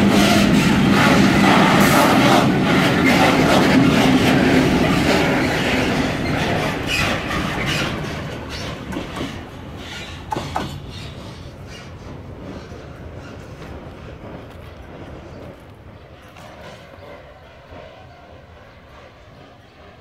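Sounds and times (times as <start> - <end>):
freight wagons clacking on rails: 0.0 - 16.8.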